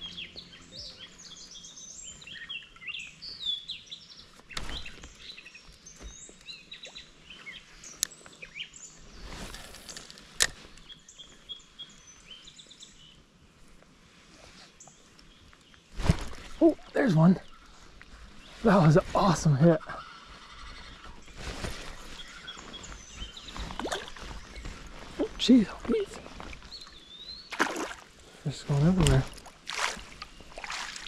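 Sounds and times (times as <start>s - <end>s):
songbirds chirping and singing: 0.0s - 13.4s, 16.5s - 31.0s.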